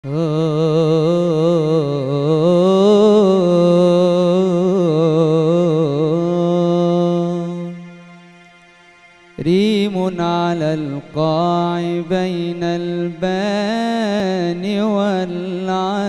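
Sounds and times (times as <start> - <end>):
man singing into a microphone: 0.0 - 8.1, 9.4 - 16.0.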